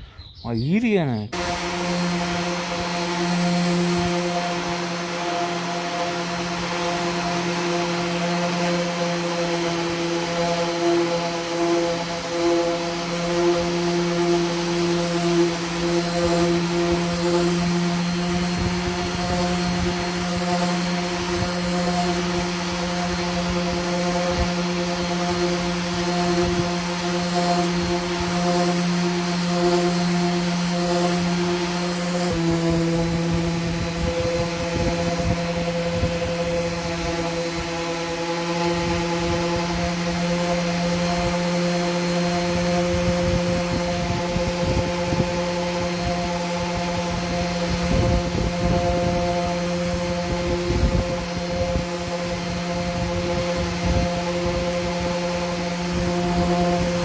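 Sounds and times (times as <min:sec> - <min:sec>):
electric motor humming: 0:01.4 - 0:57.0.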